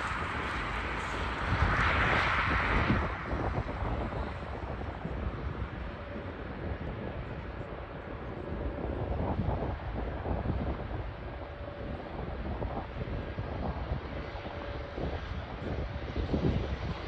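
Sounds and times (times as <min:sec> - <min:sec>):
jet airliner engine rumble: 0:00.0 - 0:17.0
wind buffeting microphone: 0:00.0 - 0:17.0.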